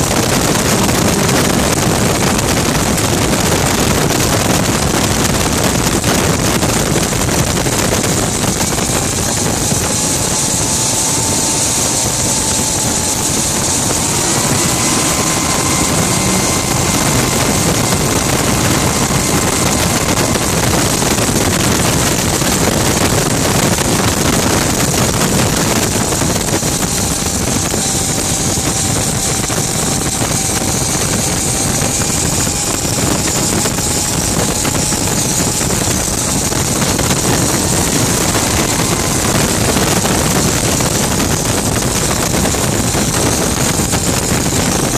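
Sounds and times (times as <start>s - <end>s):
gas turbine whining: 0.0s - 44.9s
wind rushing: 0.0s - 44.9s.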